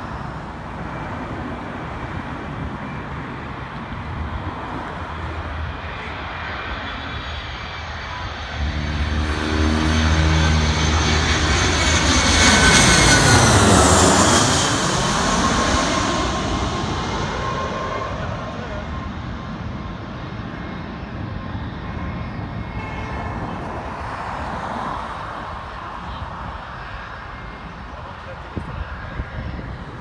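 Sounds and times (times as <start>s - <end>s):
jet engines whining overhead: 0.0s - 30.0s.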